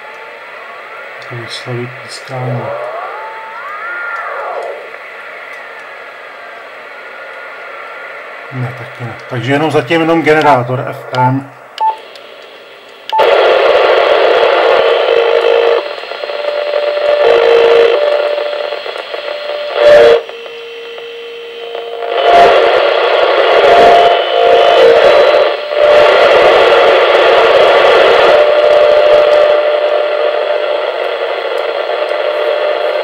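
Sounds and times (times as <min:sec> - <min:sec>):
radio click: 0:00.0 - 0:06.2, 0:07.2 - 0:08.0, 0:08.6 - 0:33.0
radio receiver hiss: 0:00.0 - 0:33.0.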